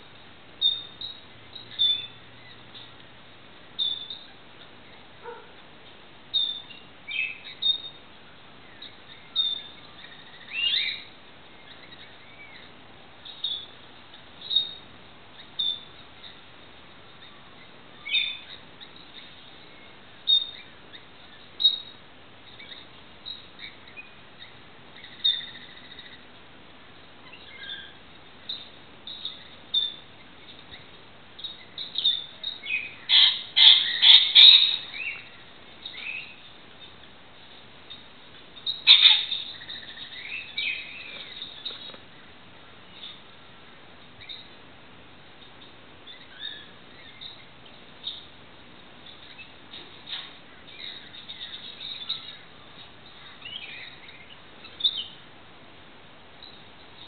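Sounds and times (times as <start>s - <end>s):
birds chirping and calling: 0.0s - 3.1s, 3.7s - 55.3s.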